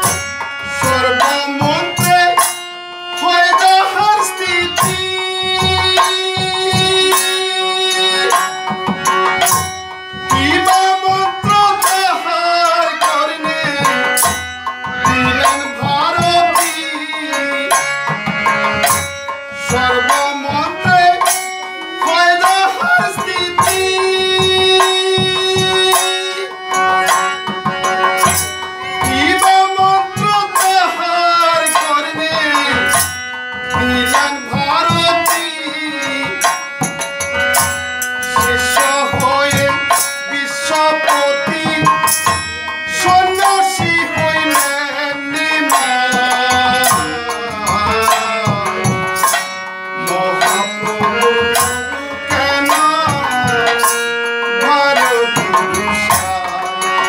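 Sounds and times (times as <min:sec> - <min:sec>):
hand drum rhythm: 0:00.0 - 0:57.0
harmonium chords: 0:00.0 - 0:57.0
man singing: 0:00.0 - 0:57.0.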